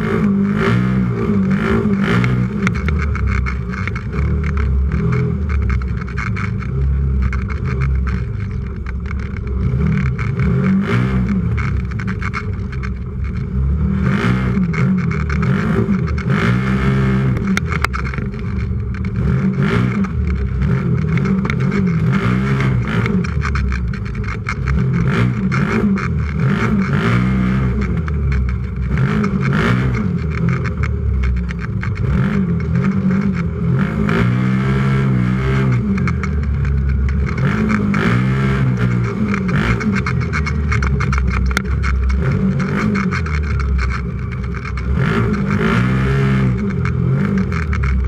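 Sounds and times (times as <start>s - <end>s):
engine revving: 0.0s - 48.0s
knocks and rattles: 1.2s - 34.4s, 35.5s - 48.0s.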